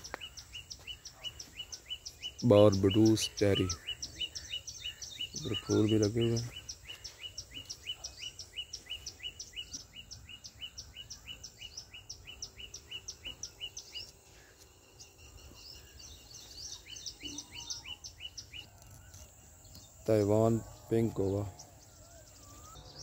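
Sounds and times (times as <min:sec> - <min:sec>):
bird chirping rapidly: 0:00.0 - 0:23.0.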